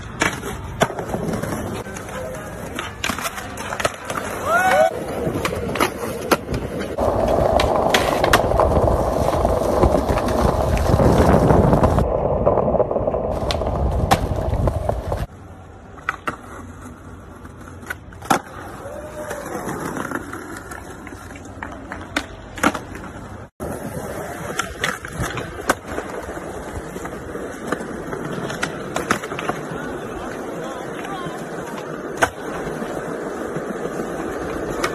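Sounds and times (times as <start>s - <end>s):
skateboard clacking: 0.0s - 34.9s
skateboard wheels rolling on concrete: 0.0s - 34.9s.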